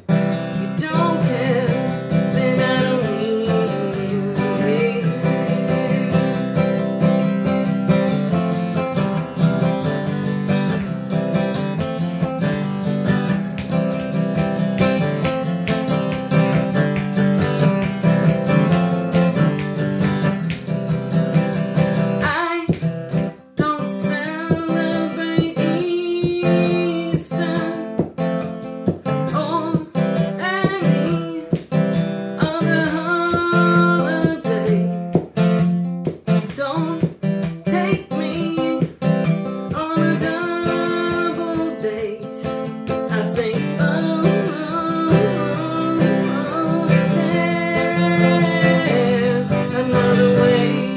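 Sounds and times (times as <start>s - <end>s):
acoustic guitar strumming: 0.0s - 50.9s
woman singing: 0.1s - 20.7s, 21.5s - 50.9s.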